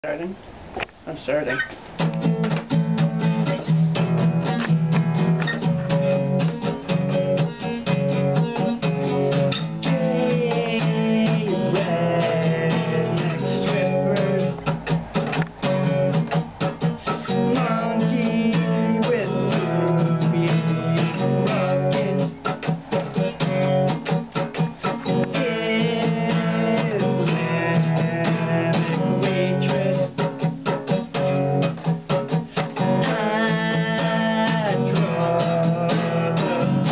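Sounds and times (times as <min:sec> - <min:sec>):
acoustic guitar strummed fast: 0:01.9 - 0:36.9.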